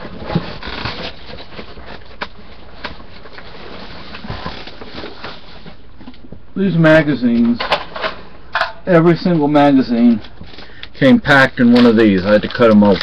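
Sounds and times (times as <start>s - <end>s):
rustling handling noise: 0.0s - 13.0s.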